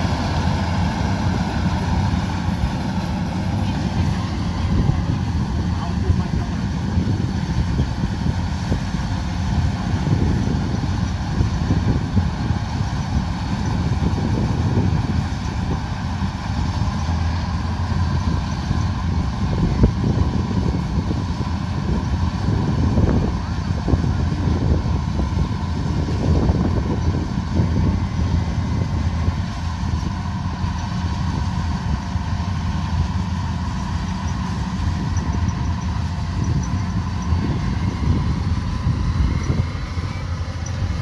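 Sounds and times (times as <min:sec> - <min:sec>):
combine harvester engine drone: 0:00.0 - 0:41.0.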